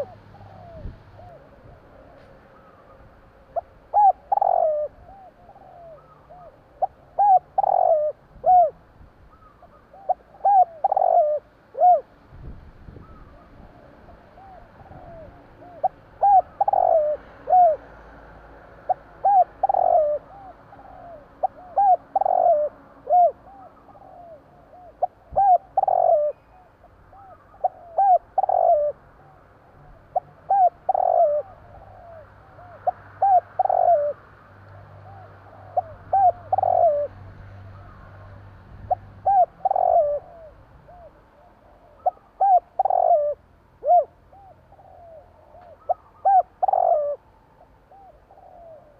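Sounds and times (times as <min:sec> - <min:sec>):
dove cooing: 0:00.0 - 0:12.2, 0:12.9 - 0:18.1, 0:18.8 - 0:48.9.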